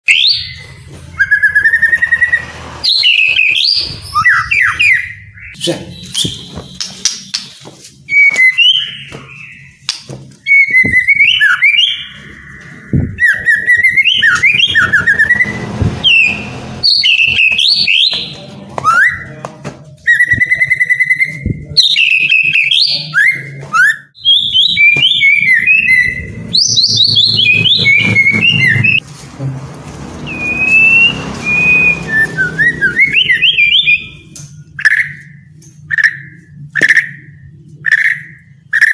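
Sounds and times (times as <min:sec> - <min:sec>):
bird singing whistled phrases: 0:00.1 - 0:06.8, 0:08.1 - 0:09.8, 0:10.4 - 0:12.3, 0:12.9 - 0:19.3, 0:20.0 - 0:29.0, 0:30.3 - 0:34.2, 0:34.8 - 0:38.9.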